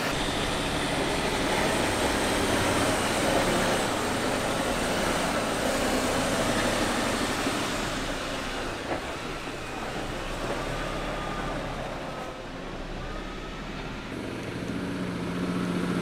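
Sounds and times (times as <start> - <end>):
diesel truck engine driving: 0.0 - 16.0.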